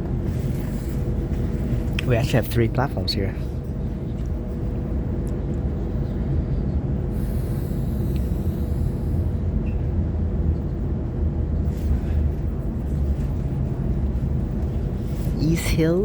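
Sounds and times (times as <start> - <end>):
faint steady hum: 0.0 - 16.0
train wheels rumbling: 0.0 - 16.0.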